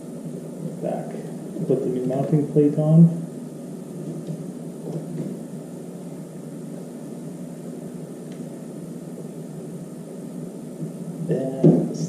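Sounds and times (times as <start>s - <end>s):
steady low noise: 0.0s - 12.0s.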